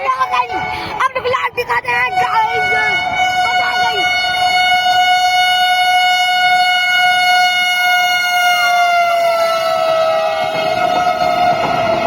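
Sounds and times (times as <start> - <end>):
train horn long note: 2.1 - 12.0.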